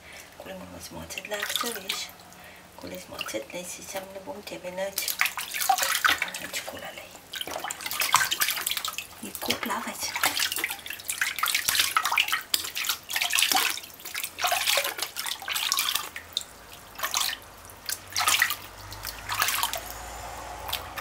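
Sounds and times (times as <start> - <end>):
water dripping: 1.1 - 21.0
water splashing in plastic bucket: 1.2 - 3.4, 4.9 - 21.0.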